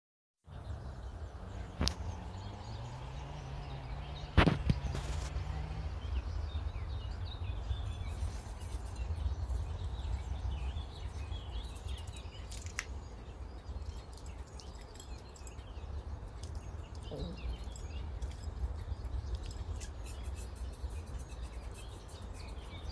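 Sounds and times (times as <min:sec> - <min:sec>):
small birds chirping: 0:00.5 - 0:22.9
steady low rumble: 0:04.4 - 0:22.8.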